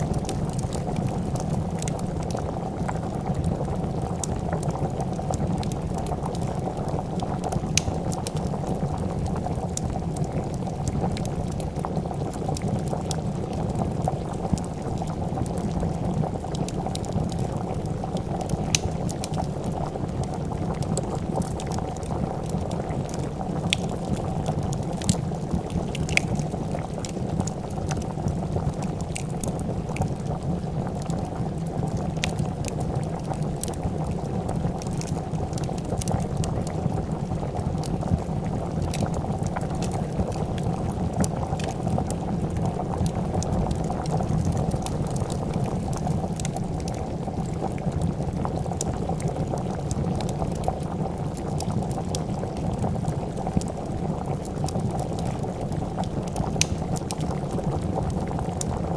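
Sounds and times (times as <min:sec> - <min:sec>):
soup bubbling in a pot: 0:00.0 - 0:58.9
wood fire popping and crackling: 0:00.0 - 0:58.9.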